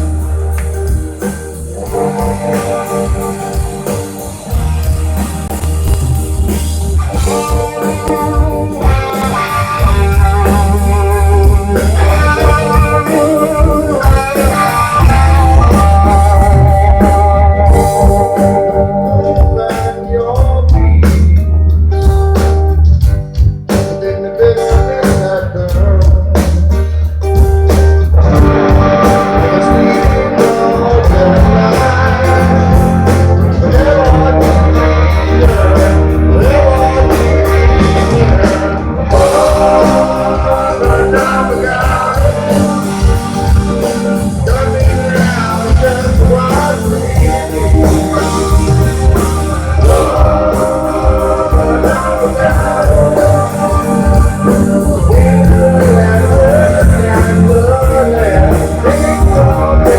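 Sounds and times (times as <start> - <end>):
guitar: 0.0 - 59.9
heavy bass line: 0.0 - 59.9
live rock band playing: 0.0 - 59.9.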